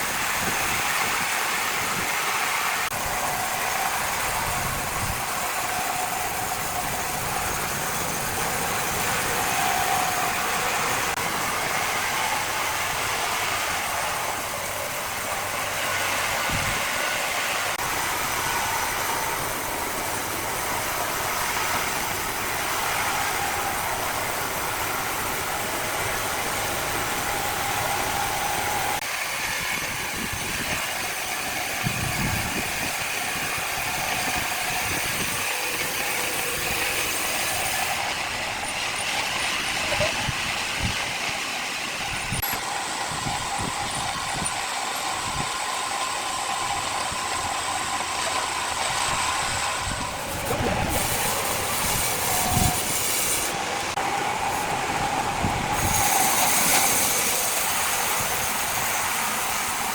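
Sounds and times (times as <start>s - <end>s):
crane engine running: 0.0s - 59.9s.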